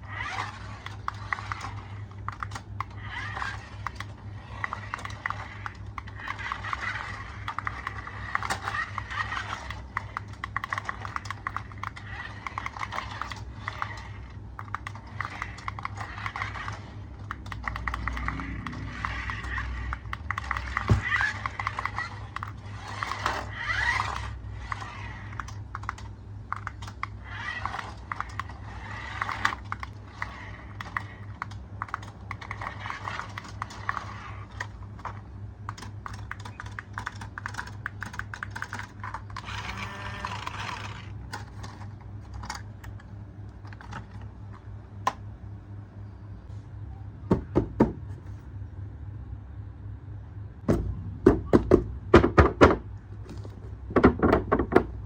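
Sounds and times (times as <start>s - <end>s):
hard plastic clicking and rattling: 0.0s - 45.2s
low steady hum: 0.0s - 55.0s.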